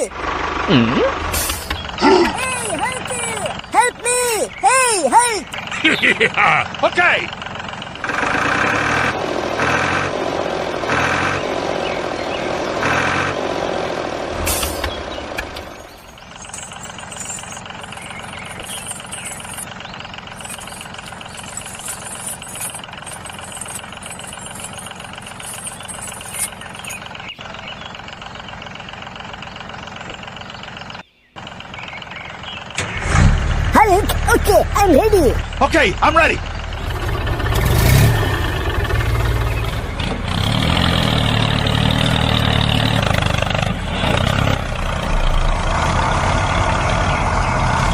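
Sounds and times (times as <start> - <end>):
mini tractor engine running: 0.0 - 47.9.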